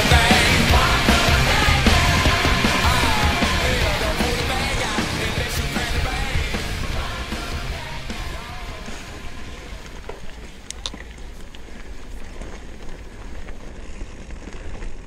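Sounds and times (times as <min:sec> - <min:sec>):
bike tyres on loose stones: 0:00.0 - 0:15.0.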